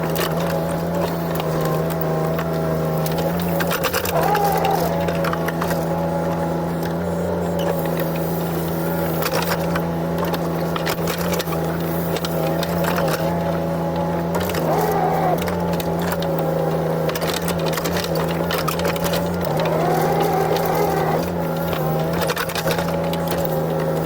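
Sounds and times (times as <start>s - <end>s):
diesel engine running under load: 0.0s - 24.0s
hydraulic whine: 0.0s - 24.0s.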